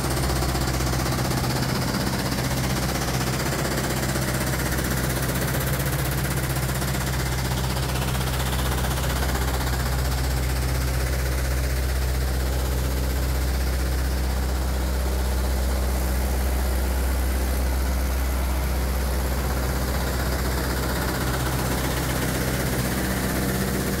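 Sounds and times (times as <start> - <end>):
diesel engine humming: 0.0 - 24.0
steady mechanical noise: 0.0 - 24.0.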